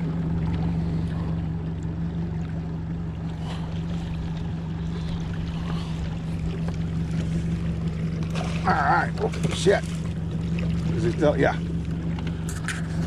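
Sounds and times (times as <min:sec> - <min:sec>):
outboard motor humming: 0:00.0 - 0:13.0
water against boat hull: 0:00.0 - 0:13.0.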